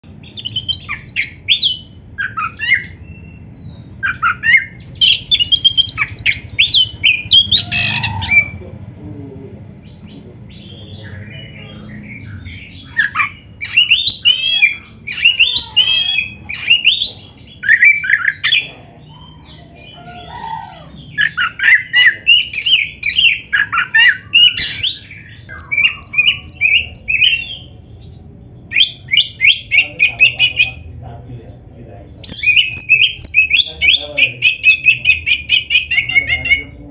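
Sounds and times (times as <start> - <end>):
bird singing whistles and chatter: 0.1 - 31.0, 32.1 - 36.9.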